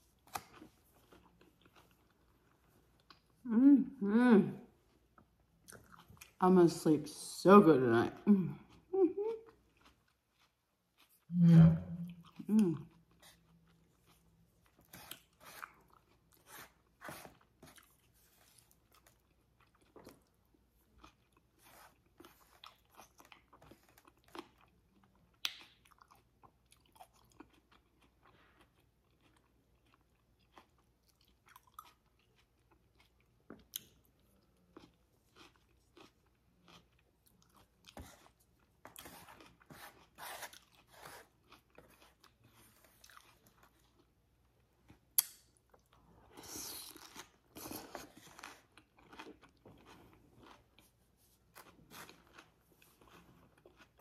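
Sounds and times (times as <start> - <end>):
person chewing salad: 0.0 - 3.5, 5.1 - 6.4, 8.4 - 54.0.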